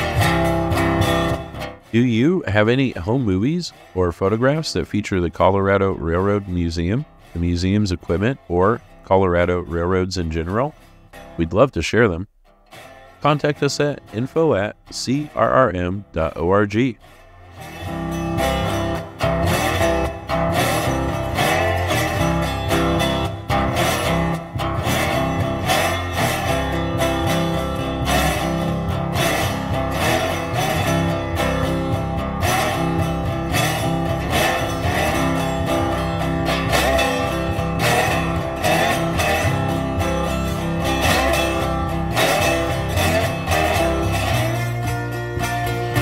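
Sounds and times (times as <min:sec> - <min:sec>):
guitar plucked and strummed: 0:00.0 - 0:46.0.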